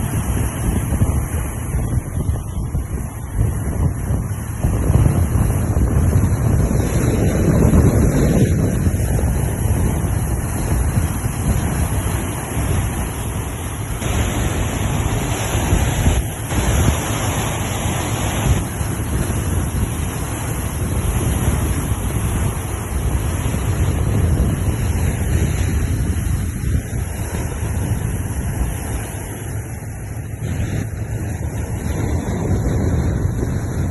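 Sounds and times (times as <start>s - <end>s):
sea waves breaking: 0.0s - 33.9s
wind buffeting microphone: 0.0s - 33.9s.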